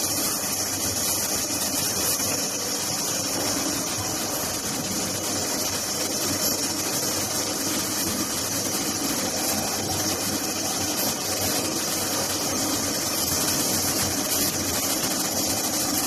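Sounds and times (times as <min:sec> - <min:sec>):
cutting machine hissing and humming: 0:00.0 - 0:16.0.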